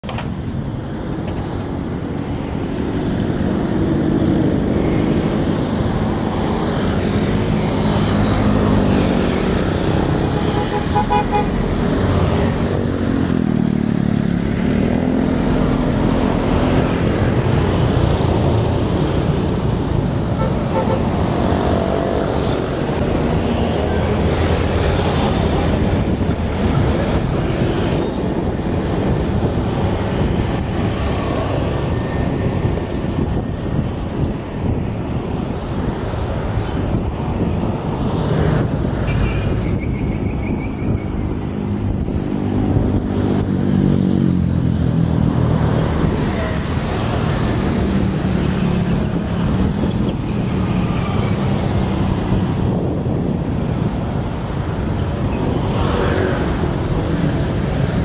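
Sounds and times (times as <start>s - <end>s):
road noise: 0.0s - 58.0s
motorcycle and car engines passing: 2.0s - 58.0s.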